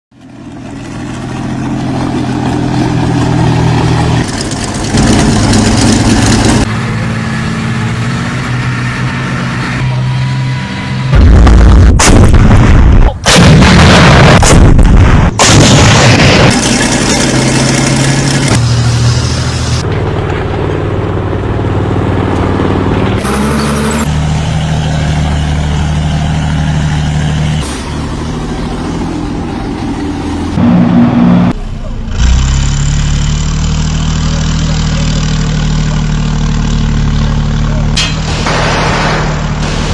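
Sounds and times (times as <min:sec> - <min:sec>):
heavy tracked vehicle engine: 0:00.1 - 0:39.9.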